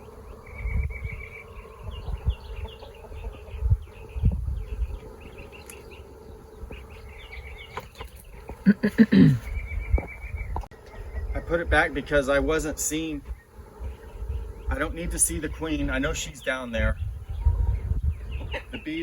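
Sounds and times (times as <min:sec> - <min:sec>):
bees humming: 0:00.0 - 0:19.0.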